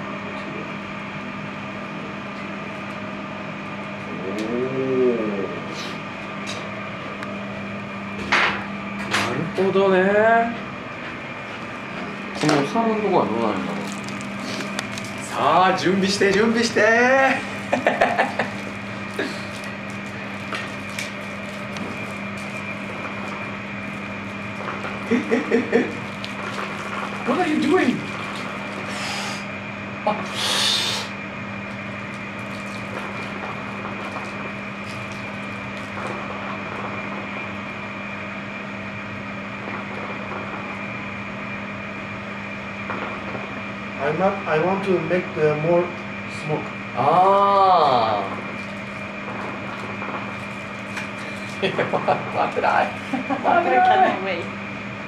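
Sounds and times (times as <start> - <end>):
ventilation fan hum: 0.0 - 55.0.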